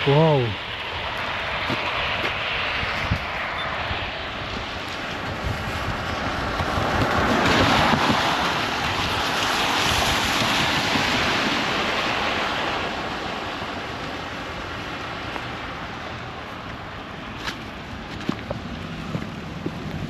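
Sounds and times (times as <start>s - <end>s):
wind gusting and buffeting microphone: 0.0s - 20.0s.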